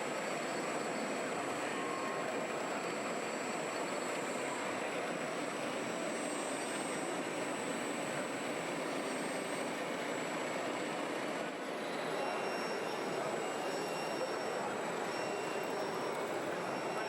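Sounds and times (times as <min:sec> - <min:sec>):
faint high whine: 0:00.3 - 0:17.0.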